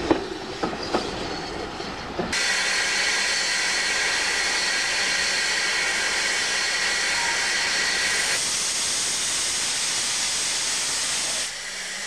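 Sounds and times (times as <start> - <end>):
locomotive steam hissing: 2.3 - 12.0.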